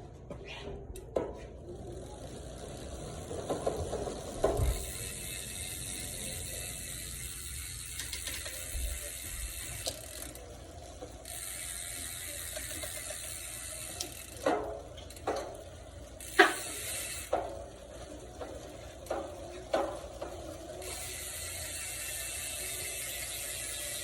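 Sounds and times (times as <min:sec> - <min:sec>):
bicycle hub ratcheting: 0:01.5 - 0:24.0.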